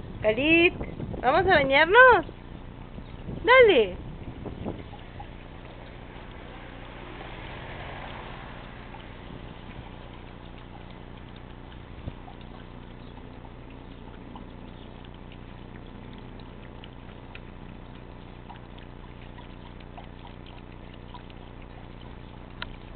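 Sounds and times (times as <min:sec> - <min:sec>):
dog lapping water: 0:00.0 - 0:22.9.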